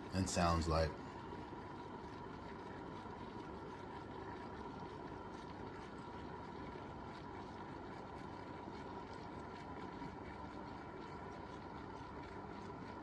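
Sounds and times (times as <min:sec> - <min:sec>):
hiss of boiling water and steam: 0:00.0 - 0:13.0.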